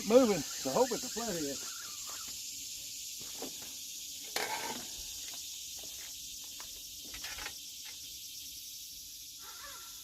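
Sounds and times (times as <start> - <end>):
high hiss: 0.0 - 10.0.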